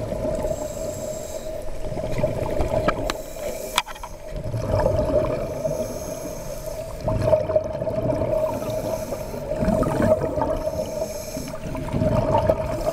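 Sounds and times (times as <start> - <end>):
underwater bubbles gurgling: 0.0 - 12.9.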